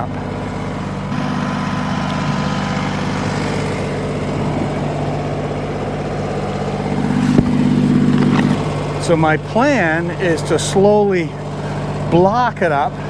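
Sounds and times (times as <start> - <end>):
diesel tractor engine idling: 0.0 - 13.0.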